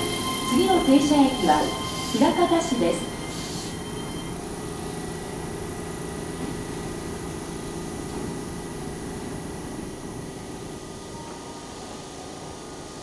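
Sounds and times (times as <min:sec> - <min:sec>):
stopped electric train humming: 0:00.0 - 0:13.0.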